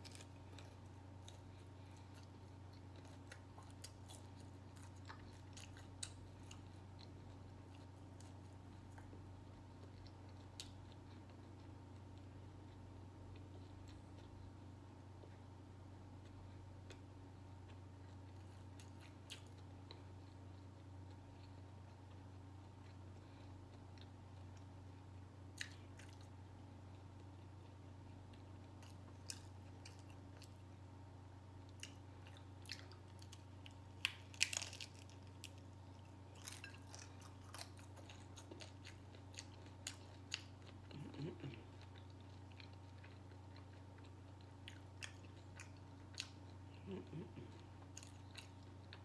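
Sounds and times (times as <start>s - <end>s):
chewing and crunching: 0.0s - 15.5s, 16.1s - 30.9s, 31.5s - 49.0s
steady low hum: 0.0s - 49.0s.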